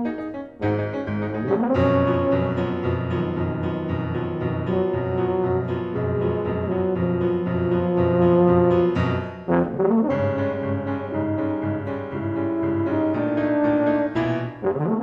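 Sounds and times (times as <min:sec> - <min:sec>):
piano playing rag: 0:00.0 - 0:15.0
tuba playing held notes: 0:00.0 - 0:15.0.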